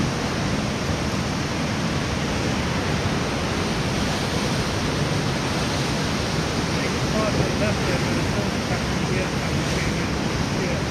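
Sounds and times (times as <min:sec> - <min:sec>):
strong wind: 0:00.0 - 0:10.9
waves breaking against pier wall: 0:00.0 - 0:10.9.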